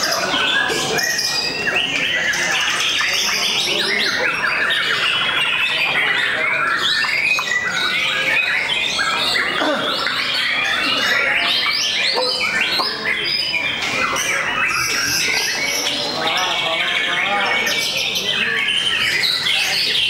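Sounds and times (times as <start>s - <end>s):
many songbirds singing: 0.0s - 20.0s.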